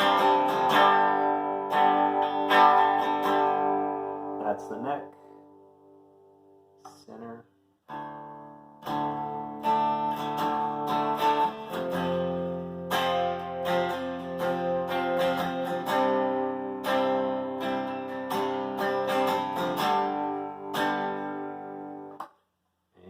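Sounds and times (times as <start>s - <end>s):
clean electric guitar chords strummed: 0.0s - 5.9s, 7.9s - 22.2s.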